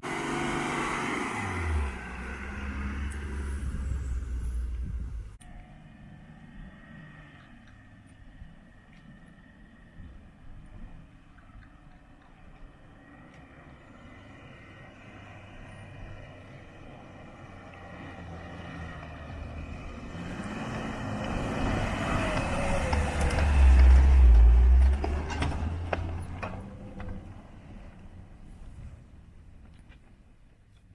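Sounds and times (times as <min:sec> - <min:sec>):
vehicle driving by on sand: 0:00.0 - 0:10.1, 0:12.8 - 0:29.2.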